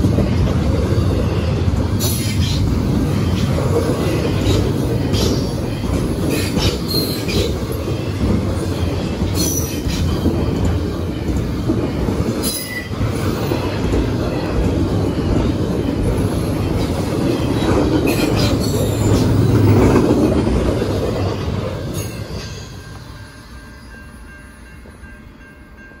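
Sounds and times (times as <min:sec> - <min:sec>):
train cars rumbling past: 0:00.0 - 0:26.0.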